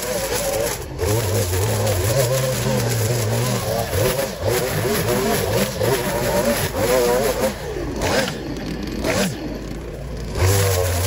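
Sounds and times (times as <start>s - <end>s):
string trimmer cutting weeds: 0.0s - 11.0s.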